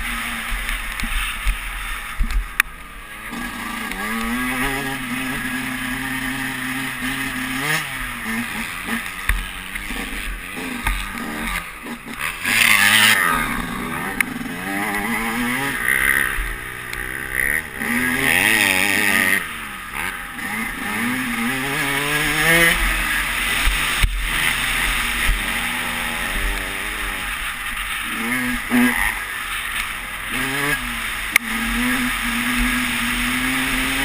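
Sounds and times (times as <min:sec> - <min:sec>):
dirt bike engine revving: 0:00.0 - 0:34.0
steady rushing noise: 0:00.0 - 0:34.0.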